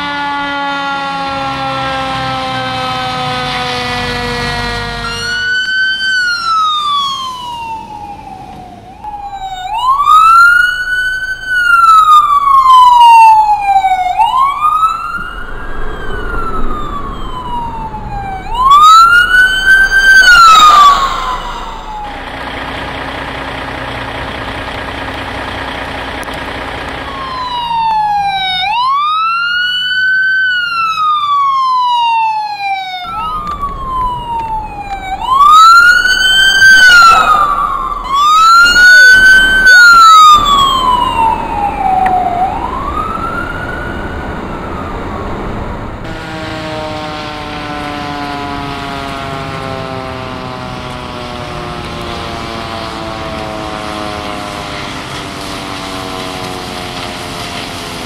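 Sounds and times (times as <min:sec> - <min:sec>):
electronic siren wailing: 0:00.0 - 0:23.8, 0:25.6 - 0:57.2.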